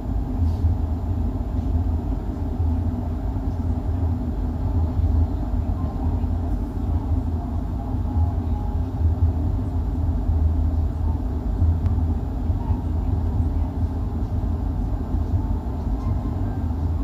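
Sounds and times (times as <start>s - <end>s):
train coach rumbling on track: 0.0s - 17.0s.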